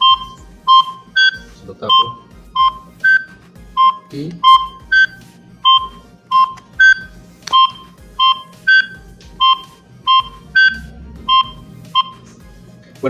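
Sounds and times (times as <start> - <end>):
phone ringing with electronic beeps: 0.0 - 12.3.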